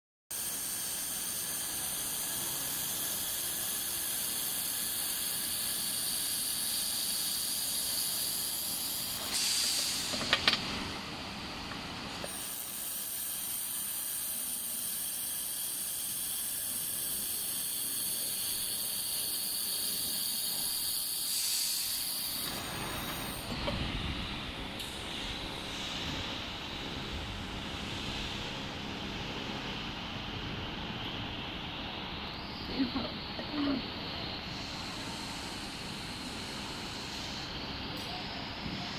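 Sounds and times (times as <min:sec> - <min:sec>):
laser welder gas hiss: 0:00.3 - 0:10.6, 0:12.1 - 0:28.6, 0:32.4 - 0:38.9.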